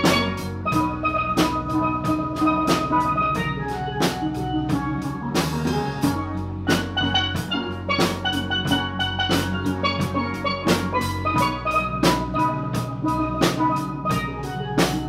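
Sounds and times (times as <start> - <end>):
steel drum band playing: 0.0 - 15.0.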